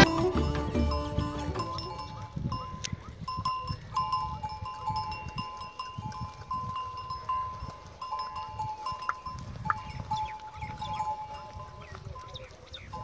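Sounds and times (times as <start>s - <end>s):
animal bells ringing: 0.0s - 13.0s.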